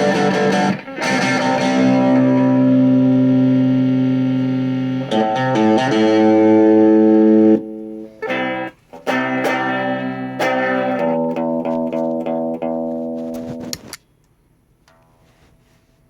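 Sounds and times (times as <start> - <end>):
electric guitar strumming chords: 0.0 - 13.8.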